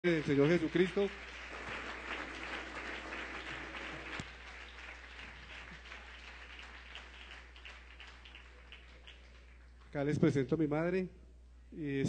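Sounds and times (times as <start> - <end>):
congregation applauding: 0.0 - 10.0.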